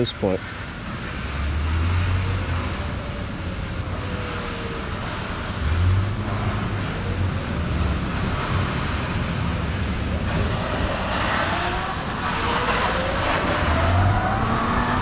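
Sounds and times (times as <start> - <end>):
bus engine rumble: 0.0 - 15.0
road and wind noise: 0.0 - 15.0.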